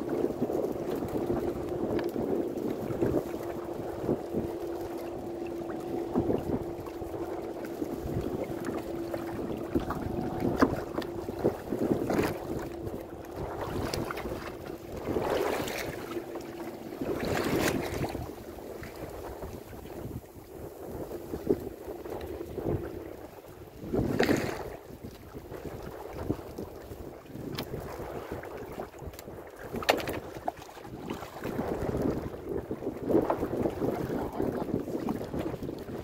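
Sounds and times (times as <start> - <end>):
water splashing against hull: 0.0 - 36.0
wind buffeting microphone: 0.0 - 36.0.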